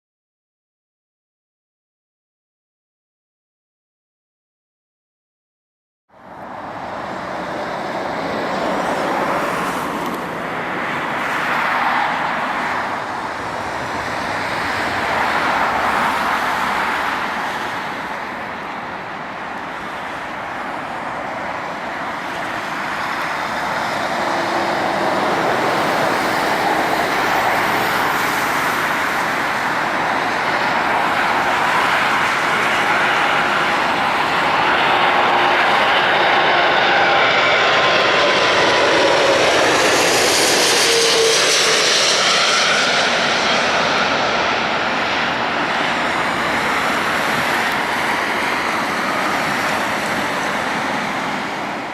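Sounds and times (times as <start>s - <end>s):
jet airliner landing: 6.2s - 51.9s.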